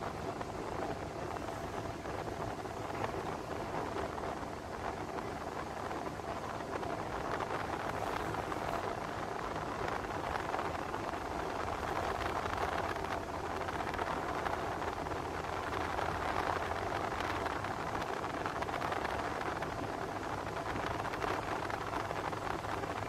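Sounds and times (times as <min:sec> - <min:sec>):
ship engines droning: 0:00.0 - 0:23.0.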